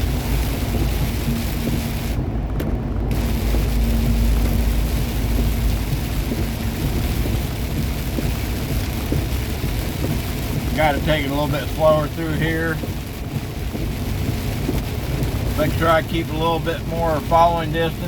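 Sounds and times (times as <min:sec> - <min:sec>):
truck engine drone: 0:00.0 - 0:18.0
tyre spray and rain hiss: 0:00.0 - 0:18.0.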